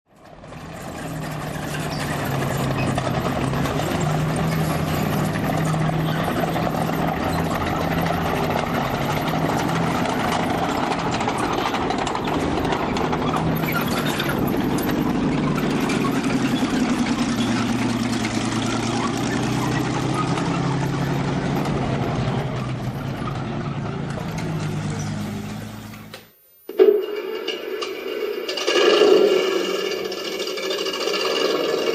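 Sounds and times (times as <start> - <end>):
simulated tank engine drone: 0.1 - 26.2
rattly mechanical noise: 0.1 - 31.9.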